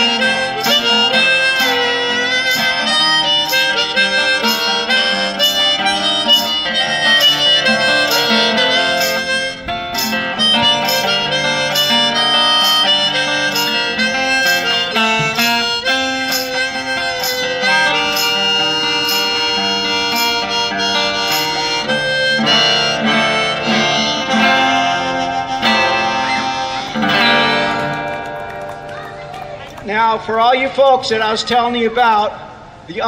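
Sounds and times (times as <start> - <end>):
harmonica melody: 0.0 - 29.6
strummed acoustic guitar: 0.0 - 29.8.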